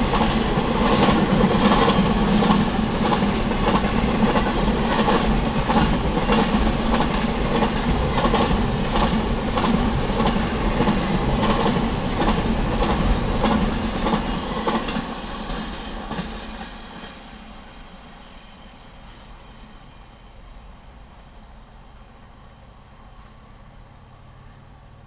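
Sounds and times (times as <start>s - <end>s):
train cars rumbling past: 0.0s - 25.0s.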